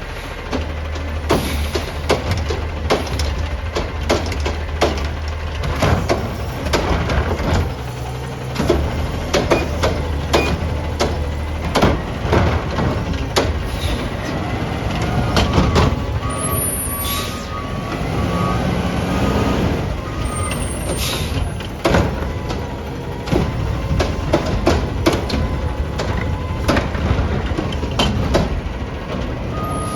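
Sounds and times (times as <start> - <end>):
sharp clunks and knocks: 0.0 - 16.5, 20.0 - 29.6
garbage truck engine running: 0.0 - 29.9.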